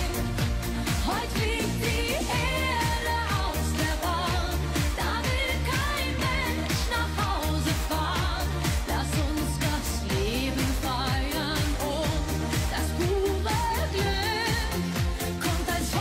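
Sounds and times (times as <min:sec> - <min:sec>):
pop band with dance beat: 0:00.0 - 0:16.0
woman singing: 0:00.0 - 0:16.0.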